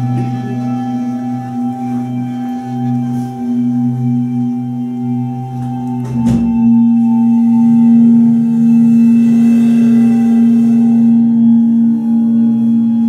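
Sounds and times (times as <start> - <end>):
clarinet held tones: 0.0 - 12.9
ringing cymbal drone: 0.0 - 13.0.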